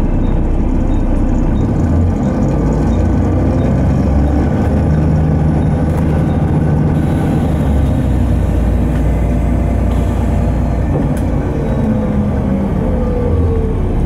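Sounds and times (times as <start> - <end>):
bus engine droning: 0.0 - 14.0
road noise: 0.0 - 14.0.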